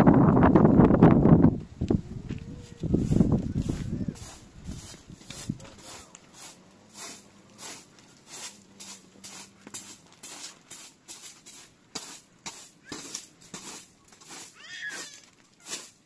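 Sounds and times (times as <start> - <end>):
broom sweeping rug: 2.3 - 16.0.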